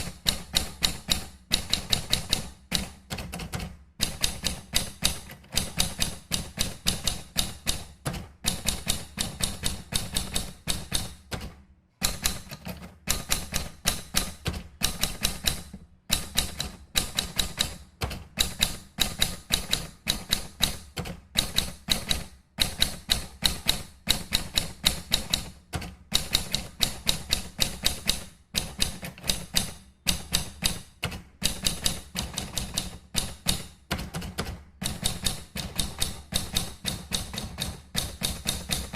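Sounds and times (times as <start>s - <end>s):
typewriter keys clacking: 0.0s - 38.9s.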